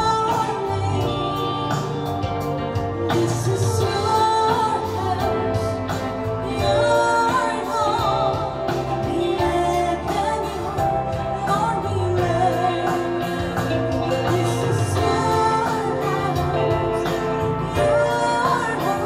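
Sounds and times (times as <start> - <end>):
electric guitar: 0.0 - 19.0
keyboard: 0.0 - 19.0
woman singing into microphone: 0.0 - 19.0.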